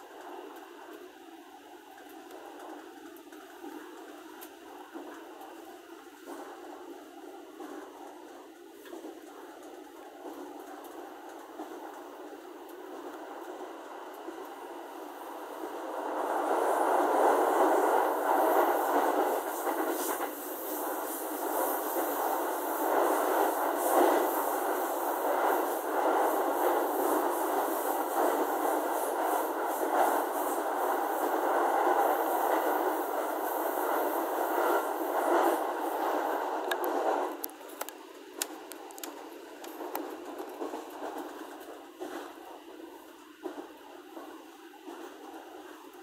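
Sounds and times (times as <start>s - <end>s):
train running noise: 0.0s - 46.0s.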